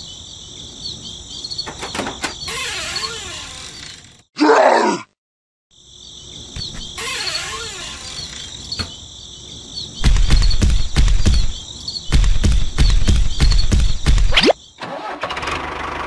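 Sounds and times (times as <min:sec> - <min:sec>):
crickets chirping: 0:00.0 - 0:04.2, 0:05.7 - 0:15.2.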